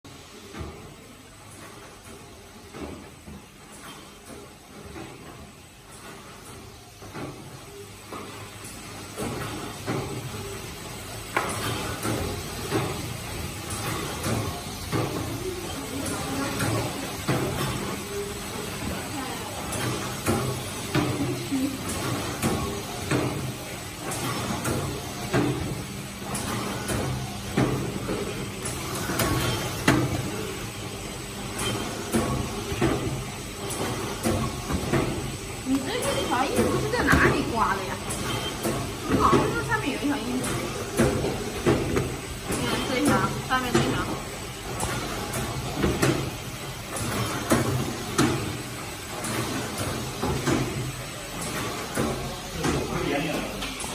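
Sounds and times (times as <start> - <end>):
mechanical clacks: 0.4 - 53.9
machine humming: 5.8 - 53.9.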